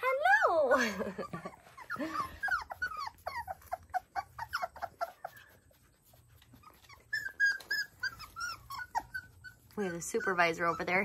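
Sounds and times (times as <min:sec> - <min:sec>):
puppies whimpering: 0:00.0 - 0:11.0.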